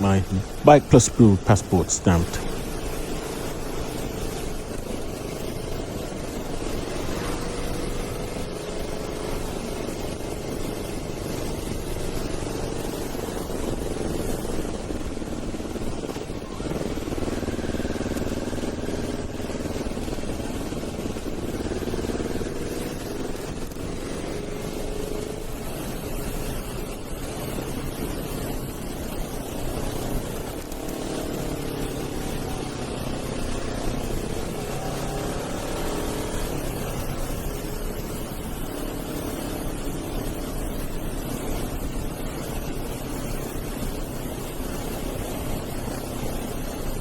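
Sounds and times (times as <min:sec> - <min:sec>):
motorcycle engine revving: 0:02.3 - 0:46.8.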